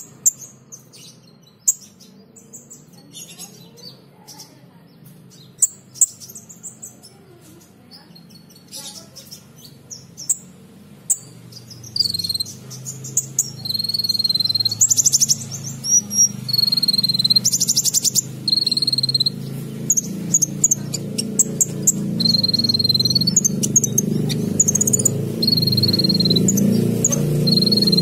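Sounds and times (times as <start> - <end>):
bird singing trills and chirps: 0.0 - 28.0.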